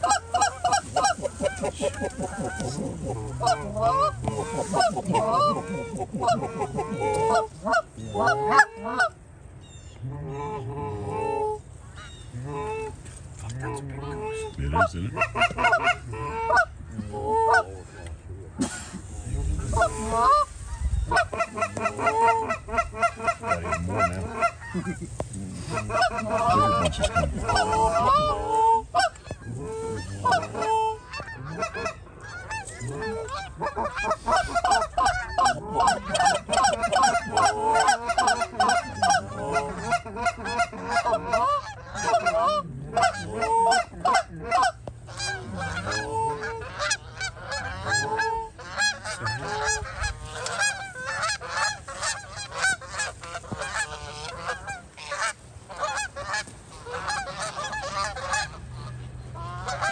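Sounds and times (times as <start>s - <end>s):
geese honking and clucking: 0.0s - 59.9s.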